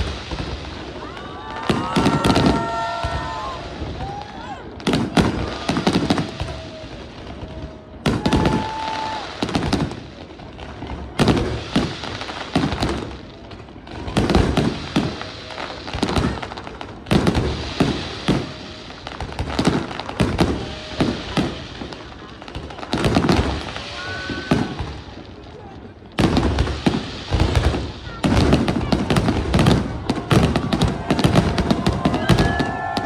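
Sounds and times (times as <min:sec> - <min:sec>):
fireworks whistling: 0:00.0 - 0:10.3, 0:11.2 - 0:13.3, 0:14.0 - 0:25.5, 0:26.2 - 0:33.0
fireworks bangs and crackles: 0:00.0 - 0:33.0.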